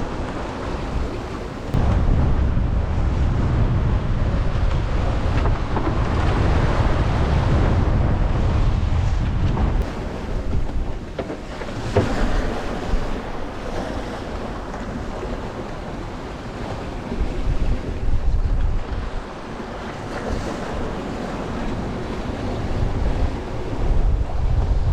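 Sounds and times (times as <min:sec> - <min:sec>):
water rushing along hull: 0:00.0 - 0:24.9
wind buffeting microphone: 0:00.0 - 0:24.9.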